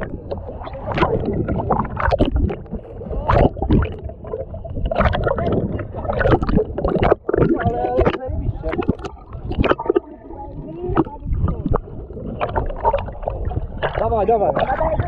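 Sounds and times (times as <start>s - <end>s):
muffled underwater gurgling: 0.0s - 15.0s
water splashes: 0.0s - 15.0s.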